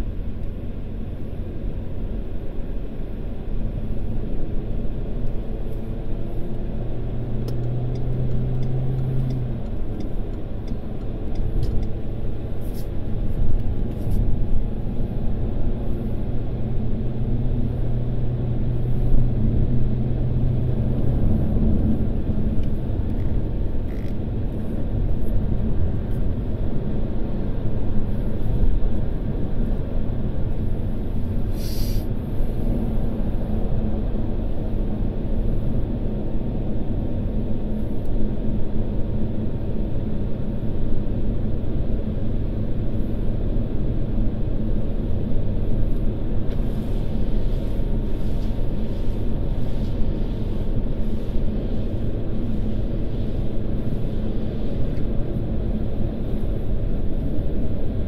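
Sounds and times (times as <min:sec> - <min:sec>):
car driving heard from cabin: 0:00.0 - 0:58.0.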